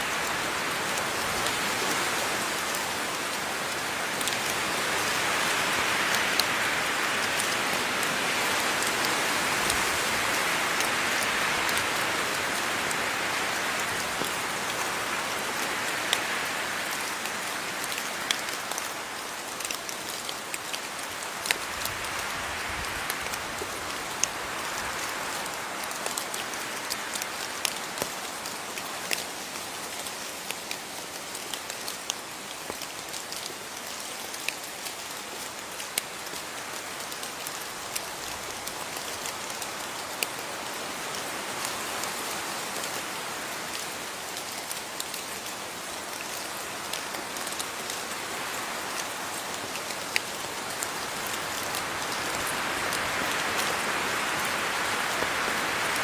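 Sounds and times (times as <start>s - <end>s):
rain hiss: 0.0s - 56.0s
raindrops ticking on a surface: 0.0s - 56.0s.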